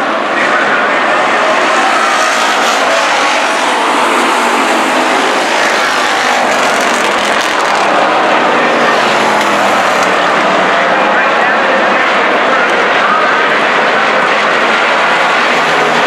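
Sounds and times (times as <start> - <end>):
race car engines roaring together: 0.0 - 16.0.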